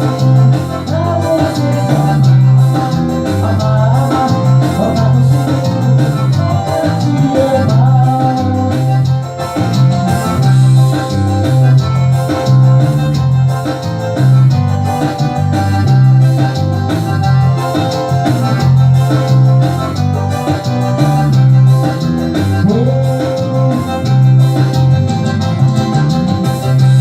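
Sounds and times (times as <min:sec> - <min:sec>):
electronic keyboard music: 0:00.0 - 0:27.0.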